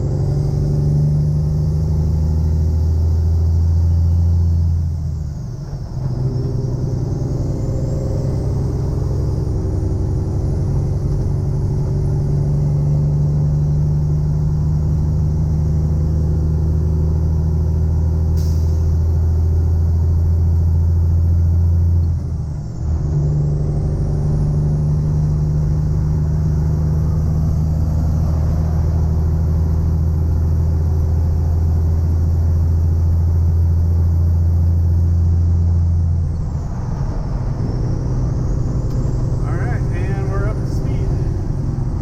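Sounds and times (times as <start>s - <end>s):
truck diesel engine droning: 0.0s - 42.0s.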